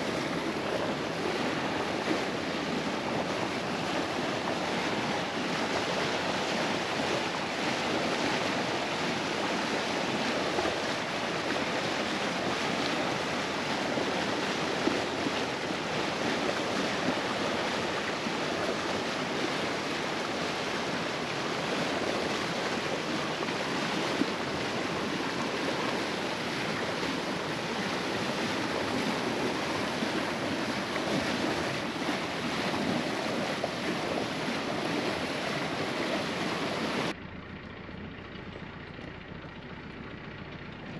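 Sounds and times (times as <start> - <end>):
sea water rushing: 0.0 - 37.2.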